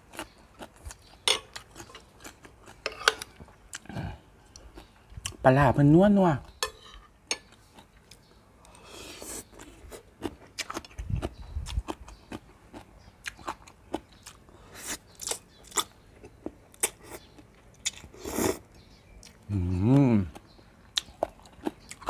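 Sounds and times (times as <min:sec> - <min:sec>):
person chewing wet crunchy food: 0:00.0 - 0:05.4, 0:07.3 - 0:22.0.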